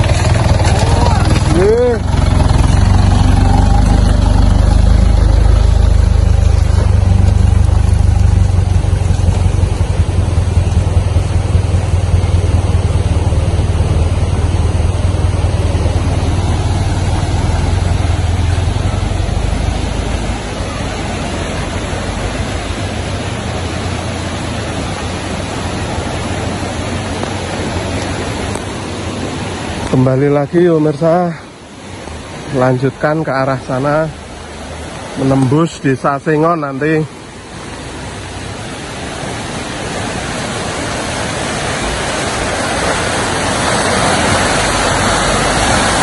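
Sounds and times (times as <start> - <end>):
truck engine rumble: 0.0 - 30.2, 31.8 - 46.0
river rushing: 0.0 - 46.0.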